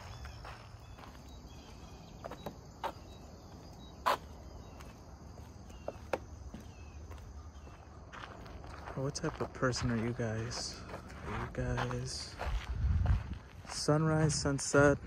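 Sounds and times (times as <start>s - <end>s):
insects trilling: 0.0s - 12.4s
footsteps on wooden bridge: 0.0s - 14.0s.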